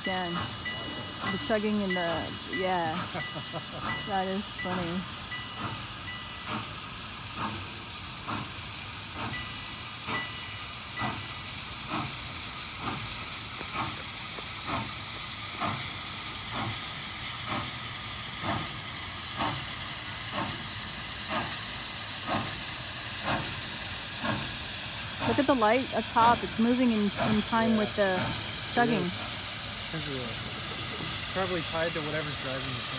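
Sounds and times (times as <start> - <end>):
steam hissing: 0.0 - 32.9
steam locomotive chuffing: 0.0 - 32.9.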